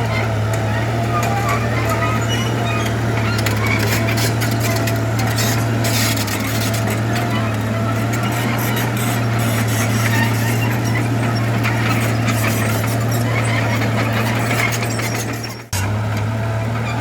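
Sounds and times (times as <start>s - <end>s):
bulldozer diesel engine running: 0.0s - 17.0s
tracks squeaking and clanking: 0.0s - 17.0s.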